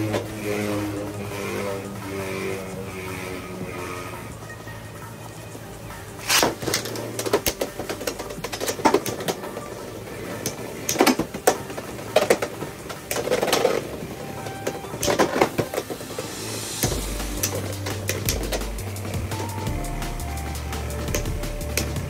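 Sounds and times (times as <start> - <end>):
spinning tops clashing: 0.0 - 22.0.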